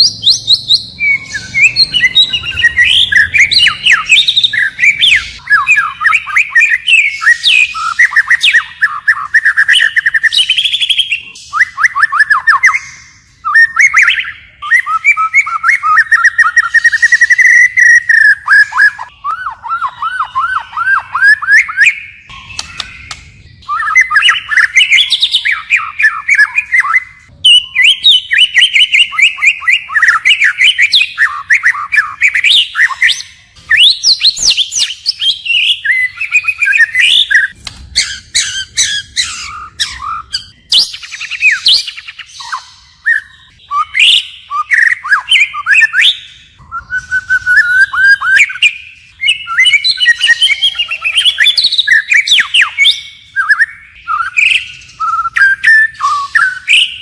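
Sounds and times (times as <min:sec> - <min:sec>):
bird singing whistled phrases: 0:00.0 - 0:57.0.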